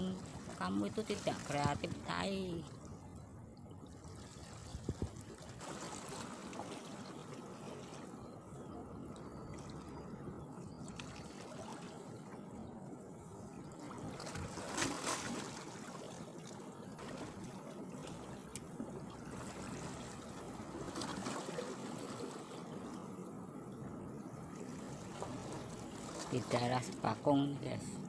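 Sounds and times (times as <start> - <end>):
small waves lapping: 0.0 - 28.0.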